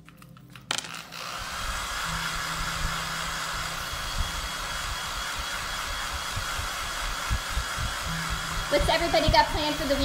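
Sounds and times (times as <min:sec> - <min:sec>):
hair dryer blowing air: 0:01.1 - 0:10.0.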